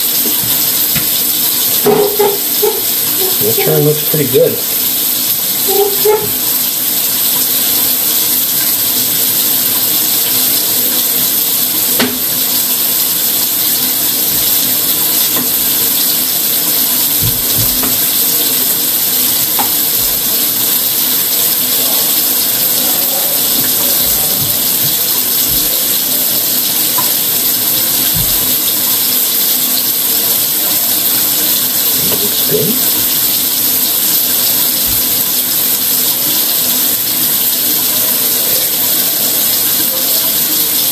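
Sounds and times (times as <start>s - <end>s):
loud steady hiss: 0.0s - 40.9s.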